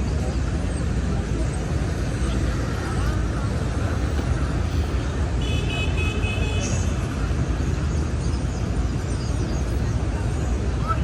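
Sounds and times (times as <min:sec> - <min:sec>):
passing vehicles rumbling: 0:00.0 - 0:11.0.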